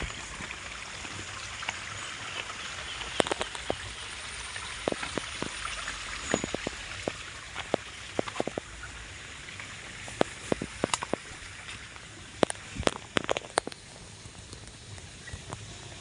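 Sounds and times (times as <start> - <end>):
heavy raindrops ticking: 0.0 - 15.7
steady rain: 0.0 - 16.0.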